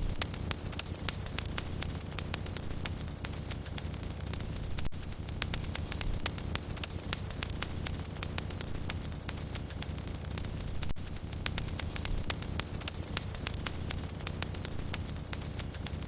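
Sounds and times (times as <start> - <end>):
burning logs rumble and hiss: 0.0 - 16.0
wood fire crackling: 0.0 - 16.0.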